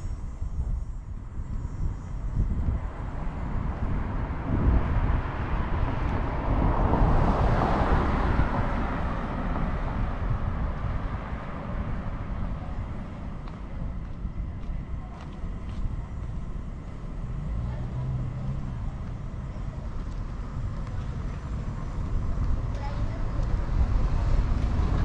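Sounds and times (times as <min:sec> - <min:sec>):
wind rumble on microphone: 0:00.0 - 0:25.0
vehicle passing: 0:02.3 - 0:25.0.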